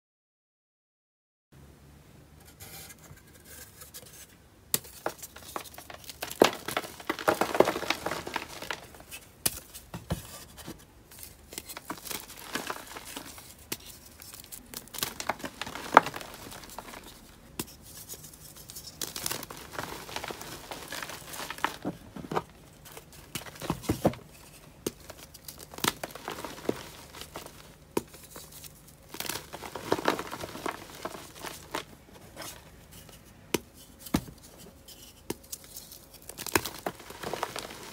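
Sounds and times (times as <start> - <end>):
chalk crunching: 2.5 - 37.9.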